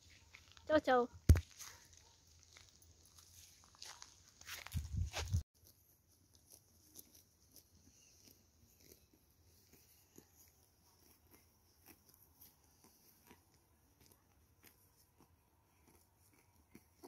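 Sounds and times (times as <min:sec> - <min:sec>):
sheep cropping grass: 0:01.3 - 0:17.0.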